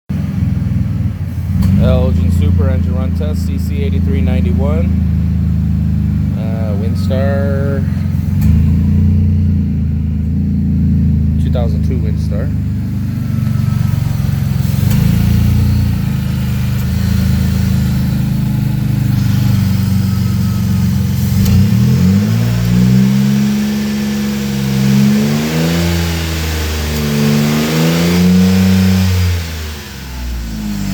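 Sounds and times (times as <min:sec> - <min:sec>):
car engine idling and revving: 0:00.1 - 0:30.9.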